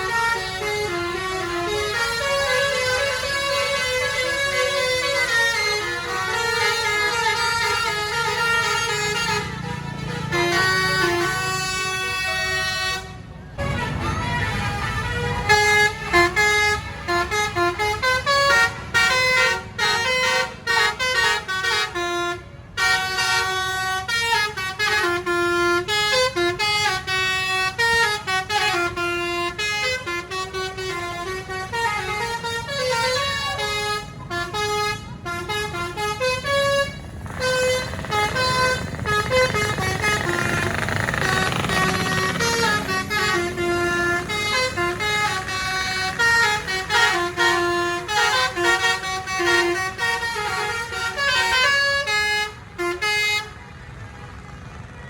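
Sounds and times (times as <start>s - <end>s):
musical air horn playing a tune: 0.0s - 53.8s.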